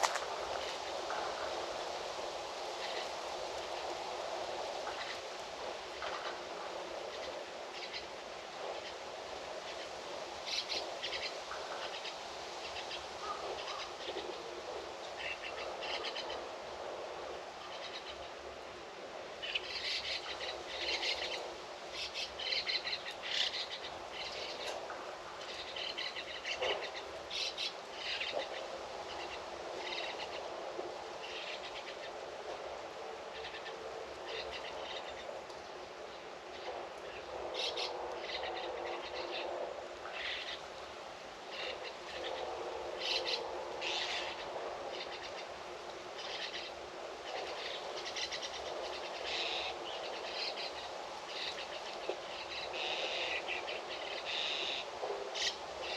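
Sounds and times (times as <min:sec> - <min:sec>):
outdoor ambience hiss: 0:00.0 - 0:55.9.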